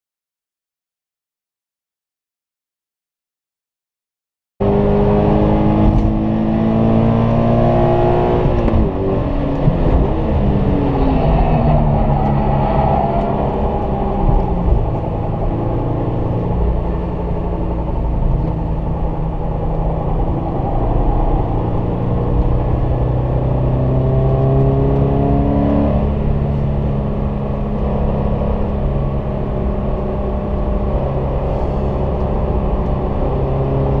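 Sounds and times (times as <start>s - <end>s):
car engine revving: 4.6s - 34.0s.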